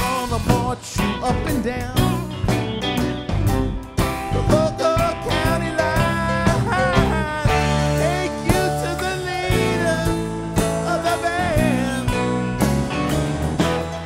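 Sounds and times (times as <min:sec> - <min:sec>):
bass guitar: 0:00.0 - 0:14.0
drums: 0:00.0 - 0:14.0
electric guitars: 0:00.0 - 0:14.0
organ: 0:00.0 - 0:14.0
piano: 0:00.0 - 0:14.0
rock band playing: 0:00.0 - 0:14.0.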